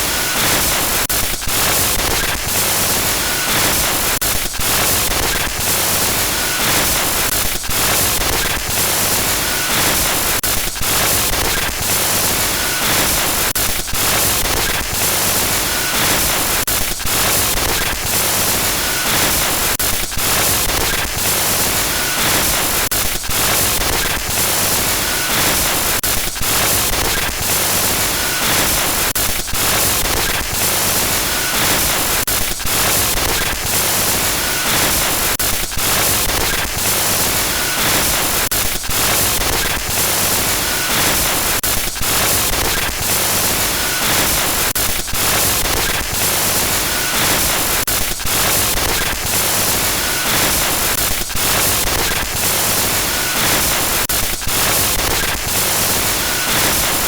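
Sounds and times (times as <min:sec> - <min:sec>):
harsh static hiss: 0:00.0 - 0:57.0.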